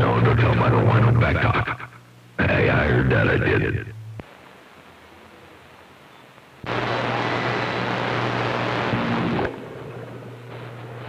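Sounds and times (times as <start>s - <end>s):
radio carrier noise rush: 0.0s - 6.0s, 6.6s - 9.5s
radio static hiss: 0.0s - 11.0s
steady low hum: 0.0s - 11.0s.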